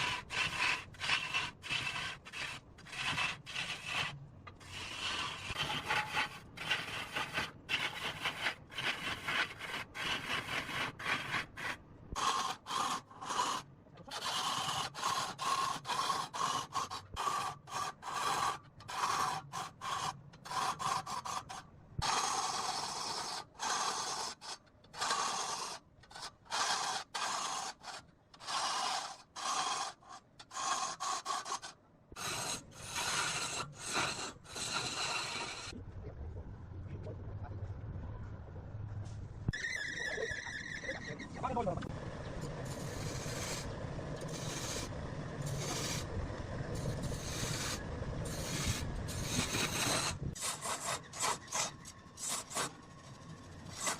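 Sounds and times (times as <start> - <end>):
lathe tool scraping wood: 0.0 - 35.8, 42.4 - 53.9.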